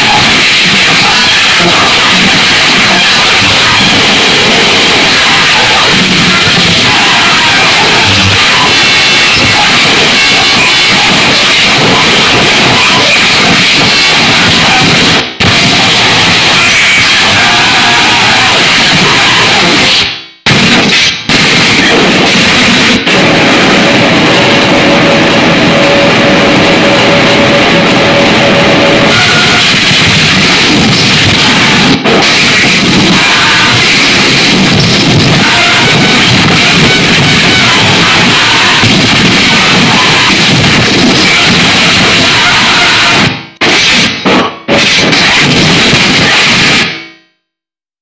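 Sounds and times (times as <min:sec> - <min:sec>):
distorted noise music: 0:00.0 - 0:48.0.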